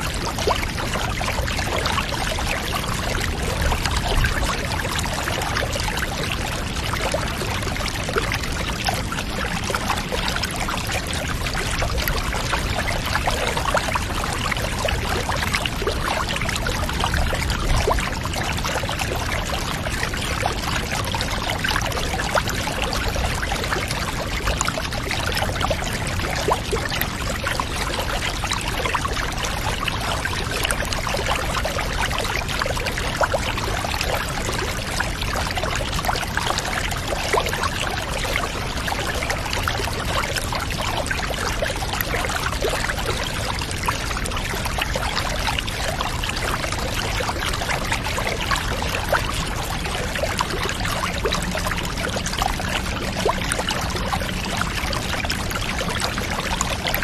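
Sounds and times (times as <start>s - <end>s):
water drips and splashes: 0.0s - 57.0s.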